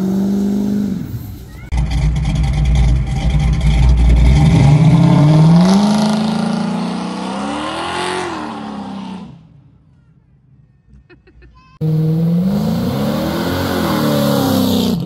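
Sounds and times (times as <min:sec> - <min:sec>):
car engine revving: 0:00.0 - 0:09.4, 0:11.8 - 0:15.0.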